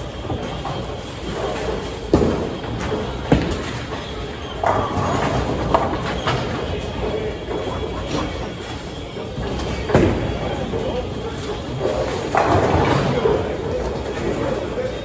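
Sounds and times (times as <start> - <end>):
bowling balls rolling on lanes: 0.0 - 15.0
balls striking pins: 0.1 - 10.8, 11.4 - 14.5.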